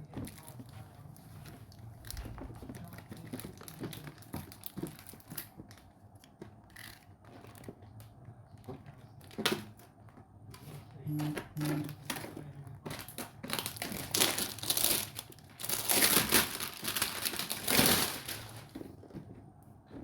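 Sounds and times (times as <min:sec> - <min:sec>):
packaging crinkling and rustling: 0:00.0 - 0:10.0, 0:10.7 - 0:19.4.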